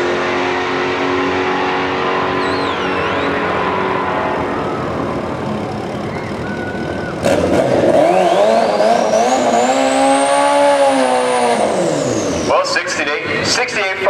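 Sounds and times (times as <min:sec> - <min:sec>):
high engine whine: 0:00.0 - 0:14.0
motorcycle engines revving: 0:00.0 - 0:14.0.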